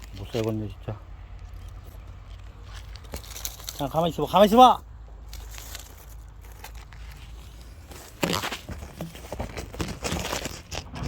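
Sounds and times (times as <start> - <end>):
rustling and crinkling material: 0.0 - 11.0.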